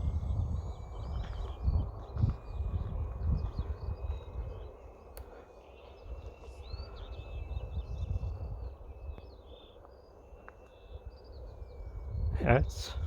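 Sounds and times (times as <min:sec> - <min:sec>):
faint high whine: 0:00.0 - 0:13.0
small birds chirping: 0:00.0 - 0:13.0
wind buffeting microphone: 0:00.0 - 0:13.0.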